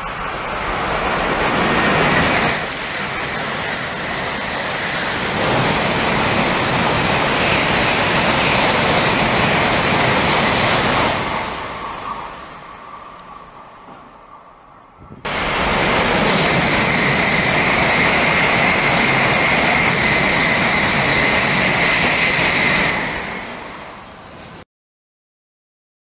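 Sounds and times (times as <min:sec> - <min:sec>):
high-speed train passing: 0:00.0 - 0:24.6.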